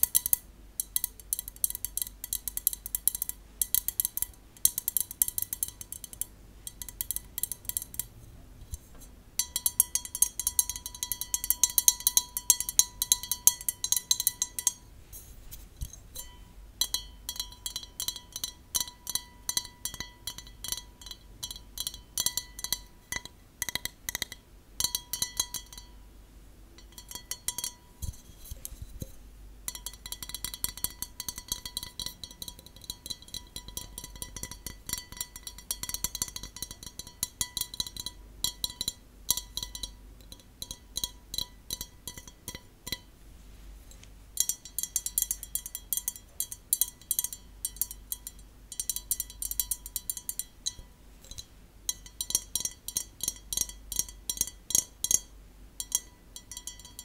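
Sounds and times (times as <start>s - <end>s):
fingernails tapping on a glass: 0.0s - 8.1s, 9.4s - 14.8s, 15.8s - 26.0s, 26.8s - 28.2s, 29.7s - 43.1s, 44.4s - 57.0s.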